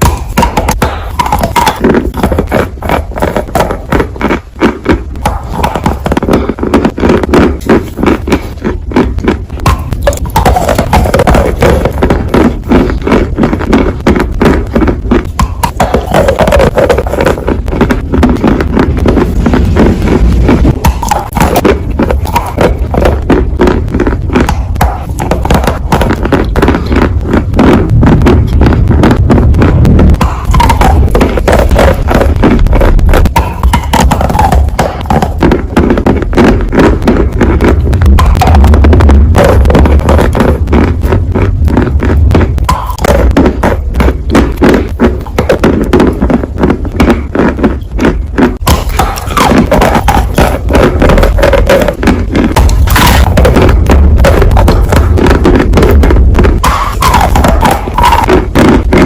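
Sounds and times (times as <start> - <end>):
chewing and crunching food: 0.0 - 59.0
low rumble: 8.8 - 45.7, 48.1 - 59.0.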